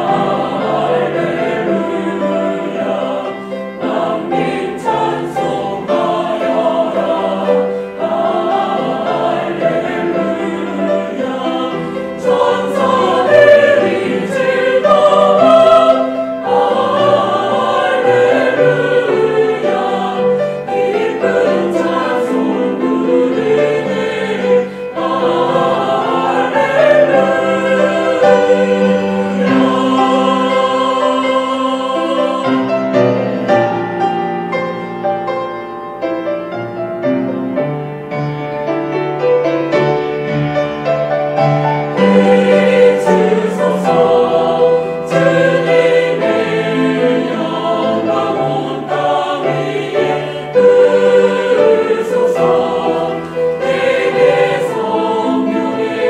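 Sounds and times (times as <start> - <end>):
cello: 0.0 - 56.0
choir singing a hymn: 0.0 - 56.0
piano: 0.0 - 56.0.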